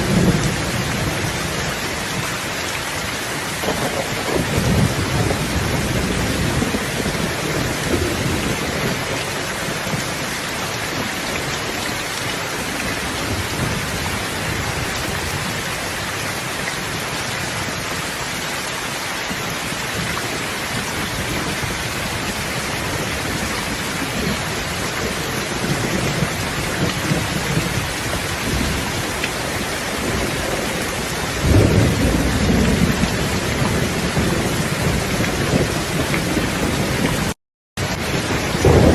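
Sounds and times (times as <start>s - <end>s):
low thunder rumbling: 0.0s - 2.6s, 3.2s - 17.0s, 19.7s - 38.9s
steady rain falling: 0.0s - 38.9s.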